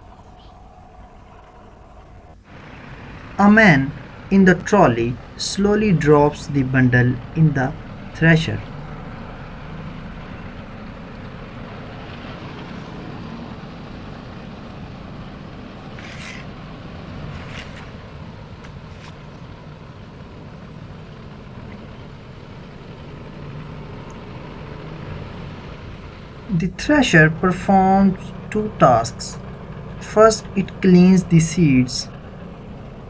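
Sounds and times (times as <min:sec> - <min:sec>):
thresher mechanical rumble: 0:00.0 - 0:33.0.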